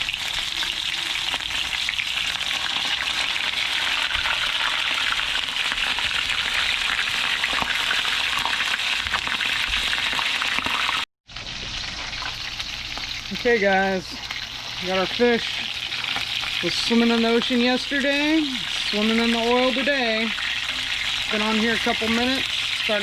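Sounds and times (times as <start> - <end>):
fish deep-frying in hot oil: 0.0 - 23.0.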